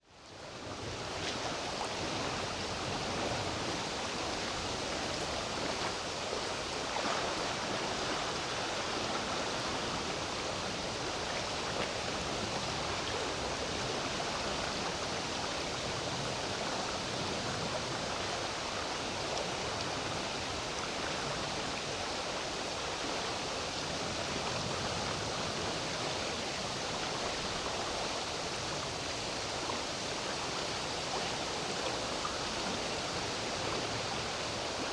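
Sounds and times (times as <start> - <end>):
river water flowing: 0.3 - 34.9.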